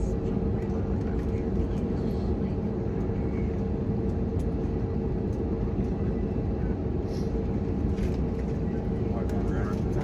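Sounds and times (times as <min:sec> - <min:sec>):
aircraft cabin engine hum: 0:00.0 - 0:10.0.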